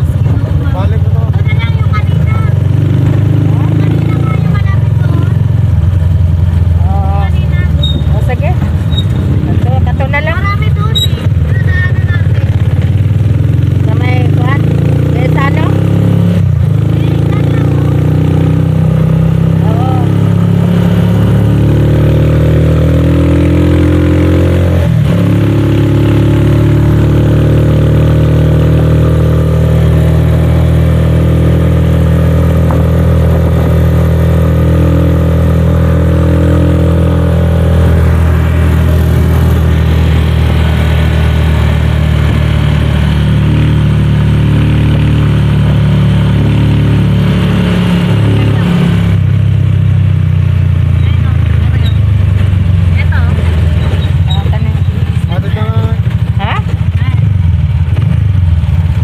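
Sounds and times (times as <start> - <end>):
vehicle engine drone from inside: 0.0 - 14.6, 15.2 - 59.0.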